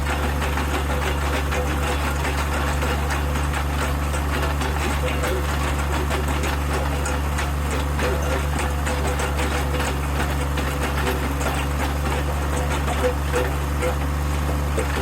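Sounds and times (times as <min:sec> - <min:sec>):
earth auger engine running: 0:00.0 - 0:15.0.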